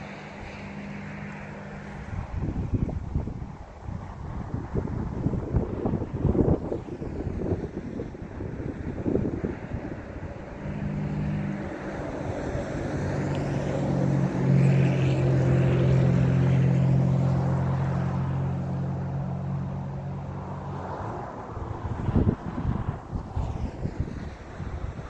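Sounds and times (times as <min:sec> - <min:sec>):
passing engine hum: 0:00.0 - 0:25.0.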